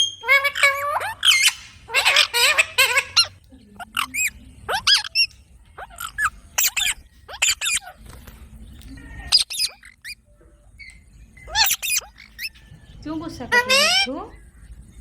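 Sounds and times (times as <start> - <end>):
parrots squawking and shrieking: 0.0 - 14.5.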